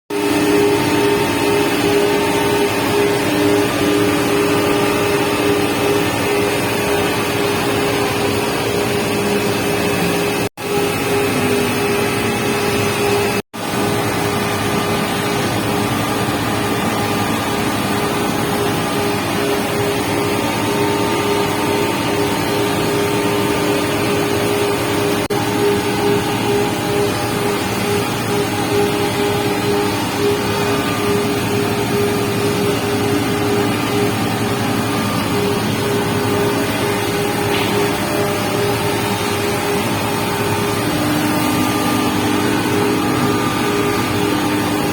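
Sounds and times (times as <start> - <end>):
electric motors humming: 0.2 - 44.9.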